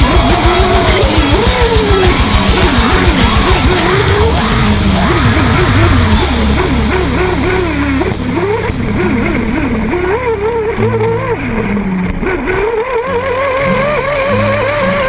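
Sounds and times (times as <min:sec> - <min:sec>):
small nitro engines revving: 0:00.0 - 0:15.0.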